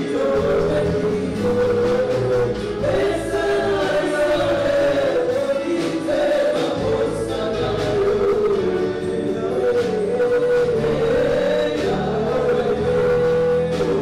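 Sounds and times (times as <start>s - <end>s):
choir singing gospel song: 0.0s - 14.0s.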